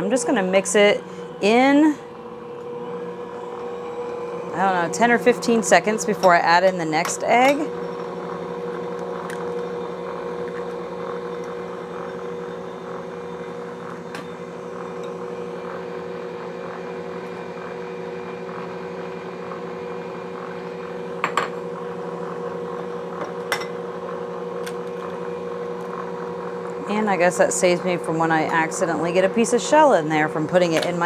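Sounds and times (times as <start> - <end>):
stand mixer motor hum: 0.0 - 31.0.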